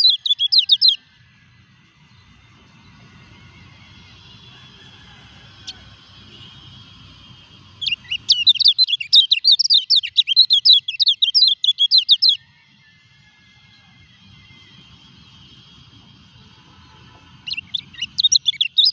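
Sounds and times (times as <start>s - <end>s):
bird twittering song: 0.0s - 4.6s, 5.5s - 12.4s, 13.7s - 18.9s.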